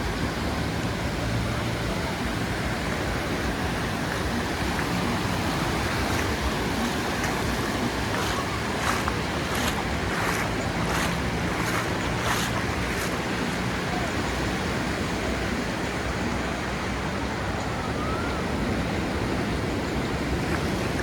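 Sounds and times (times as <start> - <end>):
ocean waves washing onto beach: 0.0 - 21.0.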